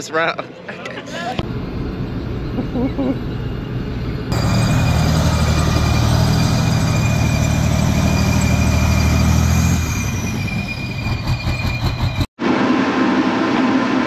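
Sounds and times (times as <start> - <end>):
turbine engine whine: 1.4 - 14.0.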